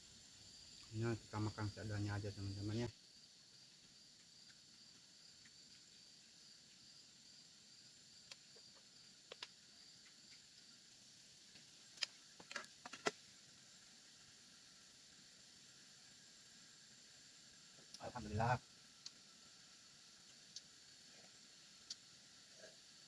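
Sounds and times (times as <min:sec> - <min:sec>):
night insects hissing: 0:00.0 - 0:23.0.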